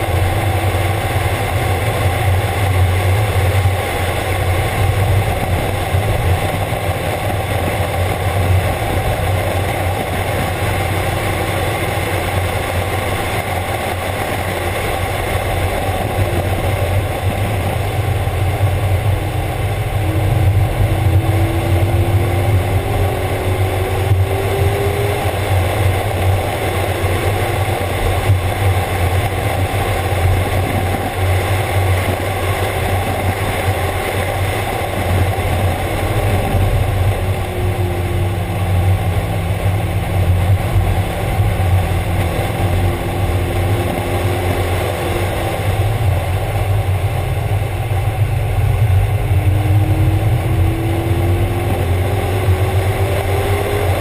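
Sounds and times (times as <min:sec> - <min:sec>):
car engine revving: 0:00.0 - 0:54.0
wind buffeting: 0:00.0 - 0:54.0.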